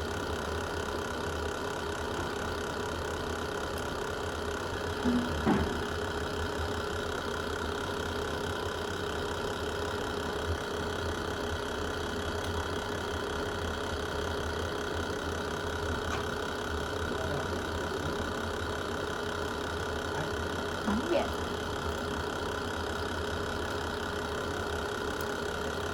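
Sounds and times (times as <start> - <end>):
low rumble of burning fire: 0.0 - 25.9.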